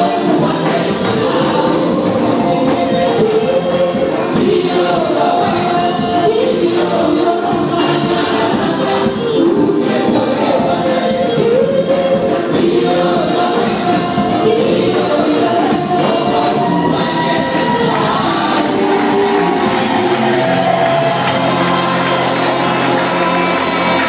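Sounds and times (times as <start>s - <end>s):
choir singing gospel: 0.0s - 24.0s
instrumental backing: 0.0s - 24.0s.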